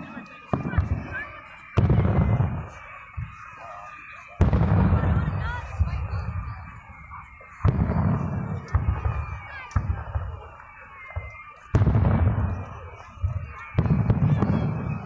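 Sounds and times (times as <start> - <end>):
firework shells booming: 0.0 - 3.7, 4.4 - 15.0.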